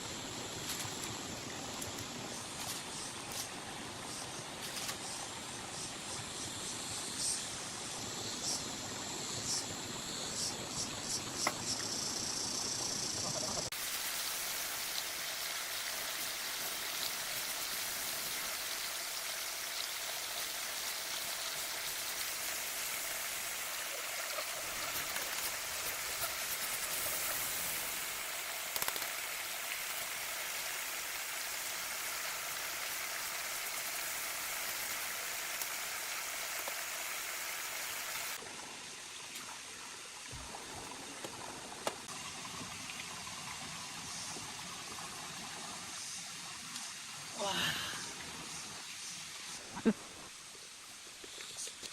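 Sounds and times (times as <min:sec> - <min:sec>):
steady hiss of water: 0:00.0 - 0:51.9.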